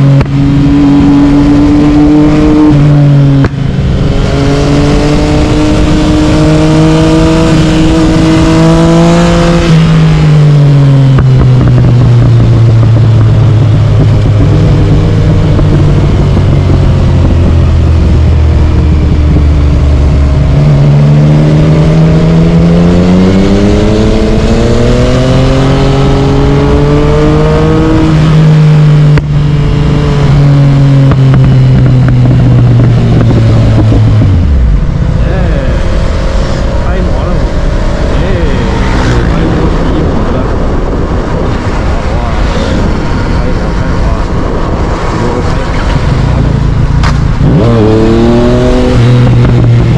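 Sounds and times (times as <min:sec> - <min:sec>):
gear change: 0:00.0 - 0:49.9
motorcycle engine revving: 0:00.0 - 0:49.9.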